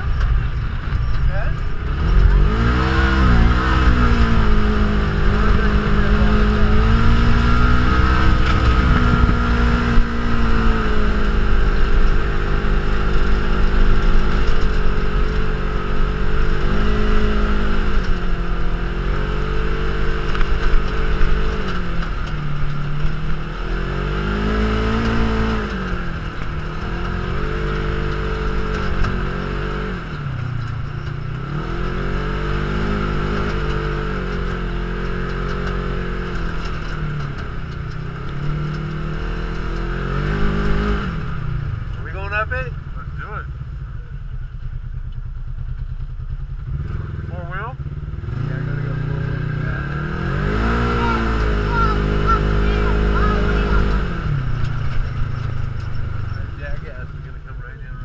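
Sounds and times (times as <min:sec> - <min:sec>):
utility vehicle engine revving: 0:00.0 - 0:58.0
wind and driving noise: 0:00.0 - 0:58.0.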